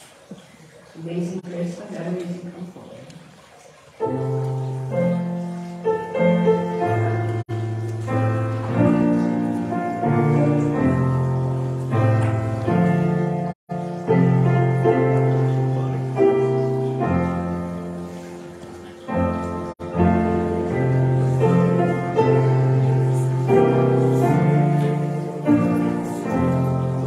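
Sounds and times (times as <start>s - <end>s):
church music on keyboard: 4.0s - 27.0s.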